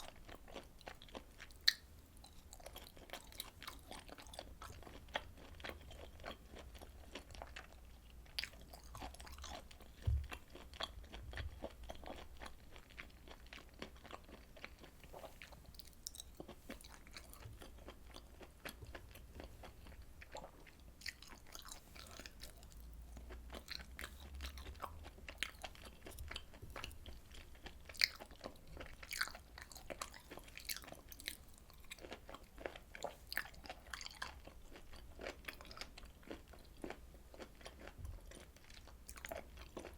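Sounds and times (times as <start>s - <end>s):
chewing and biting food: 0.0s - 39.9s.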